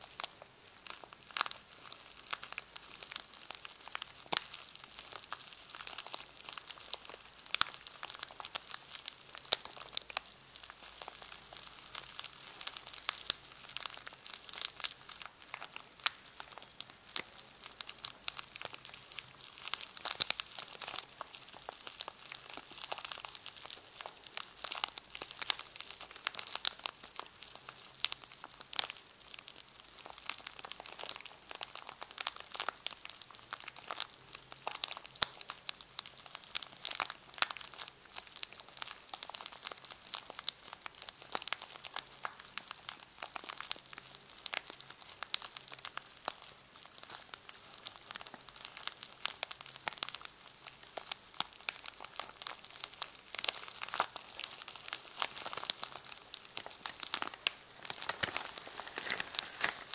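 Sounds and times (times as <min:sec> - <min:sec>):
packaging crinkling: 0:00.0 - 0:59.9.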